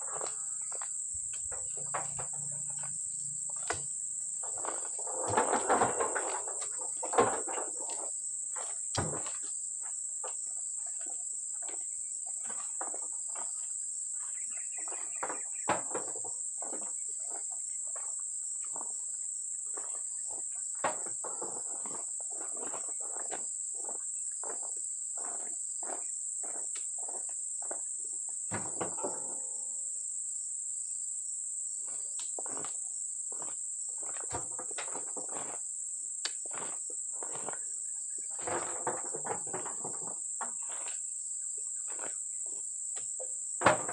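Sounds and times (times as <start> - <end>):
insects droning: 0.0 - 43.9
knocks and rustles of handling fruit: 3.5 - 19.0, 19.7 - 27.9, 28.5 - 29.4, 31.8 - 35.6, 36.3 - 43.9.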